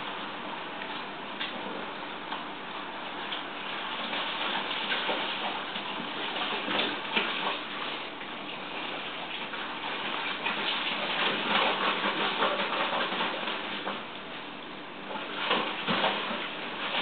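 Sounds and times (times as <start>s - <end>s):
puppies splashing in water: 0.0s - 17.0s.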